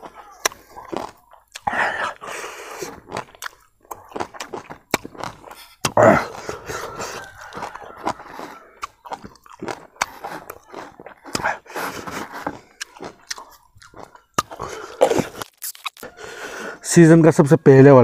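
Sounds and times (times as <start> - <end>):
lip-smacking: 0.0 - 16.3
person chewing: 0.0 - 16.8.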